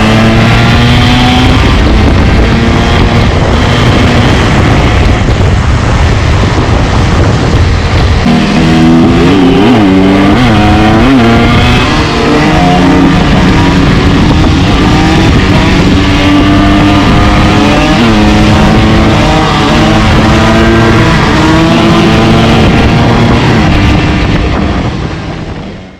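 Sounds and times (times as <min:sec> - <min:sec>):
two-stroke dirt bike engine revving: 0:00.0 - 0:25.0.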